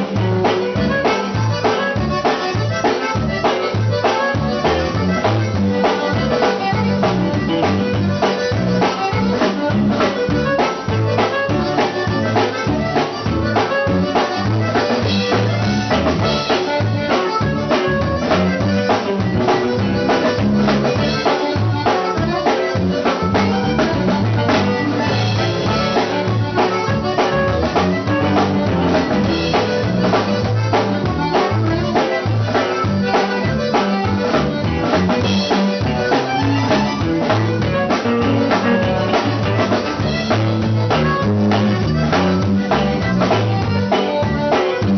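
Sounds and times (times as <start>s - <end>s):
bass: 0.0s - 44.9s
button accordion: 0.0s - 44.9s
drum kit beat: 0.0s - 44.9s.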